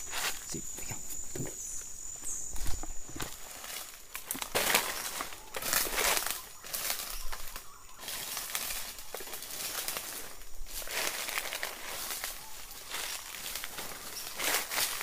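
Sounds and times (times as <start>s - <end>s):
dry leaves rustling and crunching: 2.5s - 15.0s.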